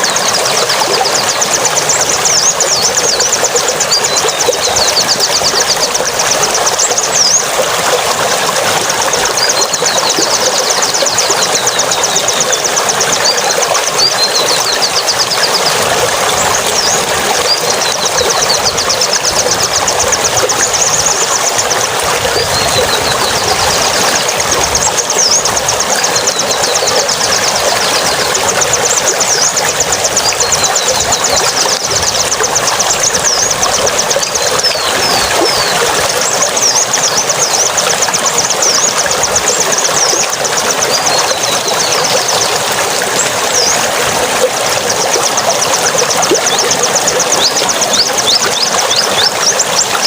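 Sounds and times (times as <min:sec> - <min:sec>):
bird trills and chirps: 0:00.0 - 0:43.9, 0:44.8 - 0:50.0
flowing water: 0:00.0 - 0:50.0.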